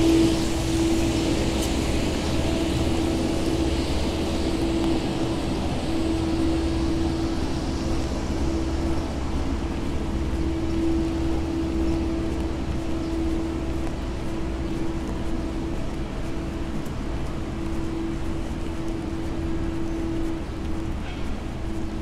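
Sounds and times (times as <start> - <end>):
traffic on wet roads: 0.0 - 22.0.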